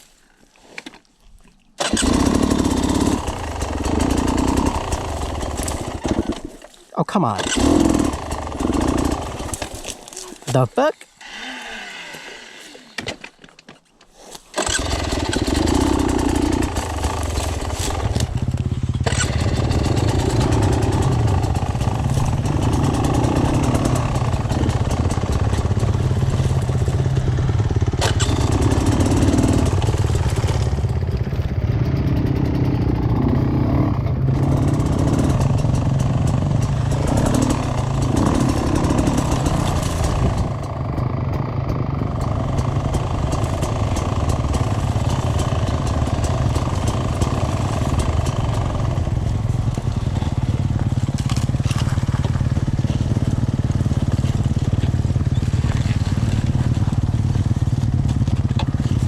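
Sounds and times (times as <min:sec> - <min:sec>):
off-road vehicle engine revving: 0:01.8 - 0:06.5, 0:07.4 - 0:09.7, 0:14.6 - 0:59.0.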